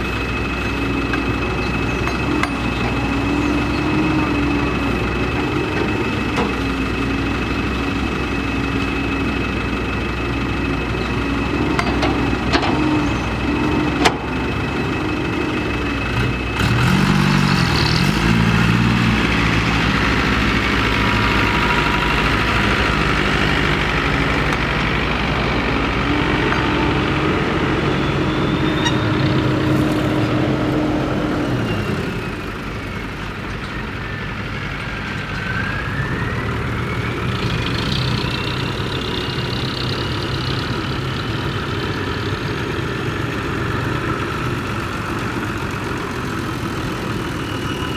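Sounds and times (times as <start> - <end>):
excavator diesel engine working: 0.0 - 47.9.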